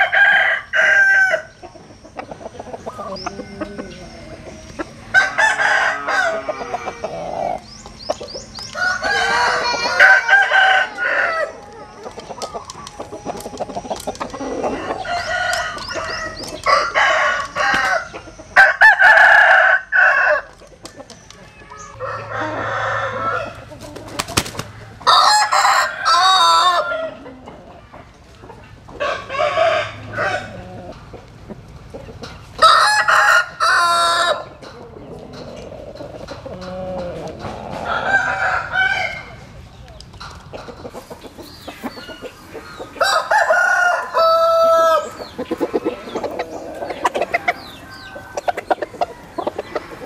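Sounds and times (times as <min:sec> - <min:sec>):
roosters crowing: 0:00.0 - 0:28.1, 0:28.7 - 0:40.0, 0:40.8 - 0:50.0.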